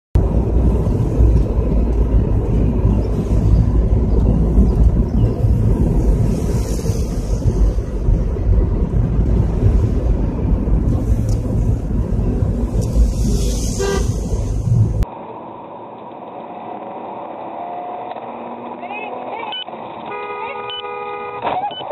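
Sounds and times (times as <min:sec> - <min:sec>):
car cabin road and wind noise: 0:00.2 - 0:21.9.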